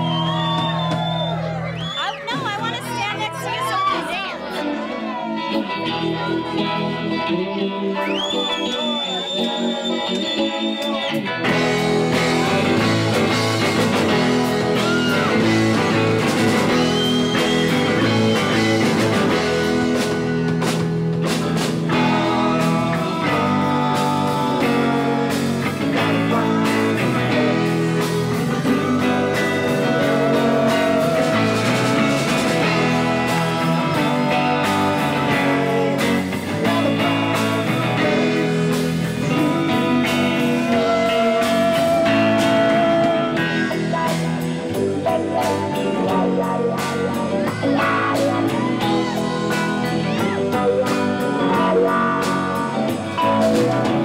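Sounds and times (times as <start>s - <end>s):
drum kit: 0.0s - 4.2s, 8.1s - 54.0s
bass guitar: 0.0s - 54.0s
electric guitars: 0.0s - 54.0s.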